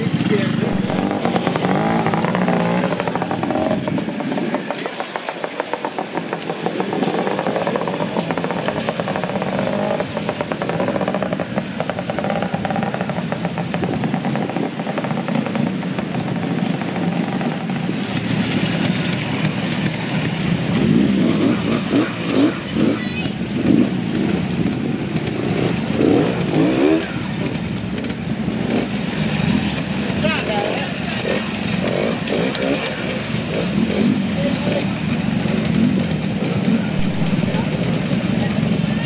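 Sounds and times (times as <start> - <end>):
motorcycle engine revving: 0.0 - 39.0
rushing water: 0.0 - 39.0.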